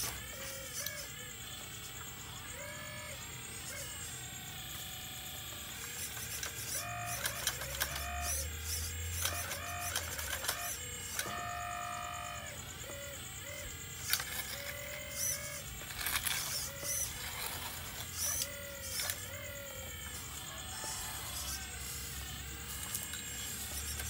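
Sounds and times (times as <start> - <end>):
electric pump whining: 0.0 - 24.0.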